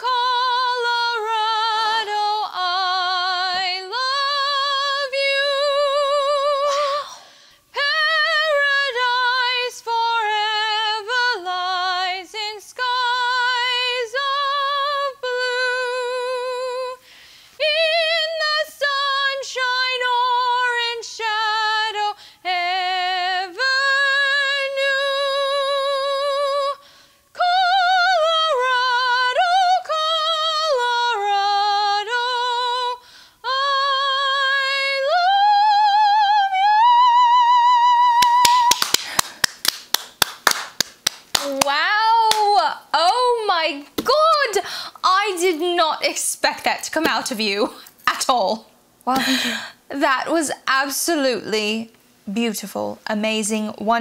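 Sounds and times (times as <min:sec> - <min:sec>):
woman singing with vibrato: 0:00.0 - 0:39.5, 0:41.3 - 0:47.9, 0:48.5 - 0:50.6.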